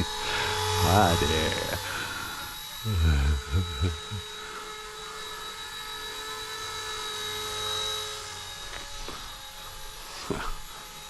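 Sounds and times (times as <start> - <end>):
model helicopter motor whine: 0.0 - 2.8, 4.1 - 11.0.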